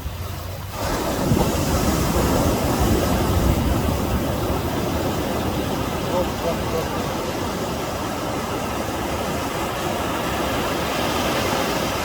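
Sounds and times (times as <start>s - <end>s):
ocean wave breaking: 0.0s - 12.0s.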